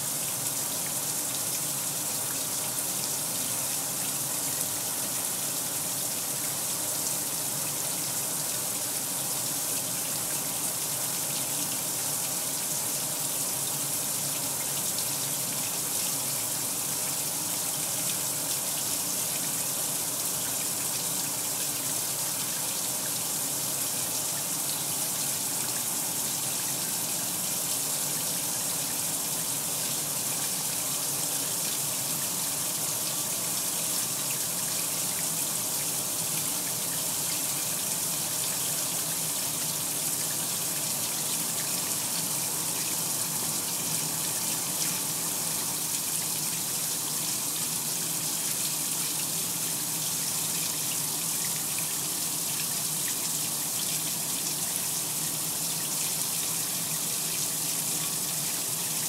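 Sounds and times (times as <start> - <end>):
washing machine filling with water: 0.0 - 59.0.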